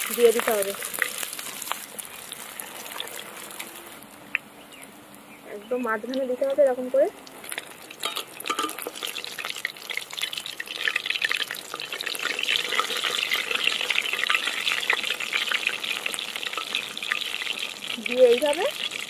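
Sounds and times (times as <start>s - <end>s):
chicken deep-frying in oil: 0.0s - 4.3s, 5.8s - 19.0s.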